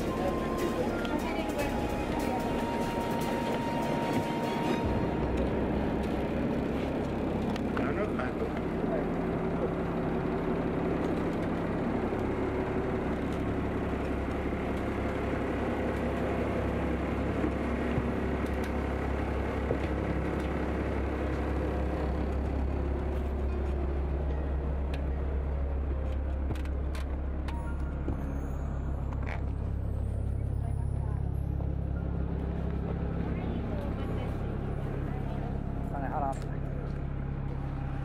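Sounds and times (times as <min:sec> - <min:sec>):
ferry engine droning: 0:00.0 - 0:38.0.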